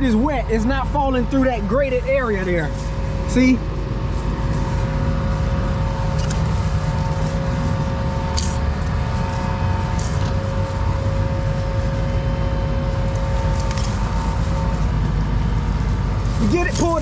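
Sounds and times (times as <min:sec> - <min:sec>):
tractor engine drone: 0:00.0 - 0:17.0.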